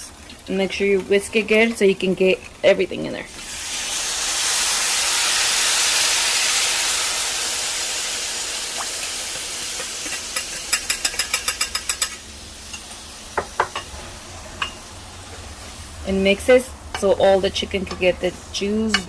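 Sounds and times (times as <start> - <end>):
sauce sizzling in frying pan: 0.1 - 19.0.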